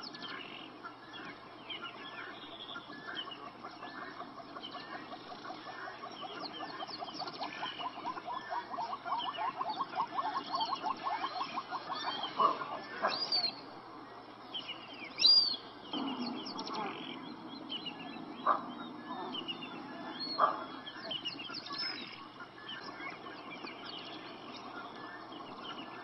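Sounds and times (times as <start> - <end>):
bird chirps: 0.0 - 13.7, 14.5 - 26.0.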